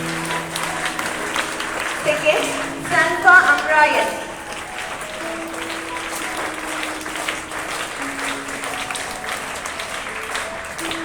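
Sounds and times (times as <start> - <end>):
audience clapping: 0.0 - 11.0
instrumental music with held notes: 0.0 - 11.0.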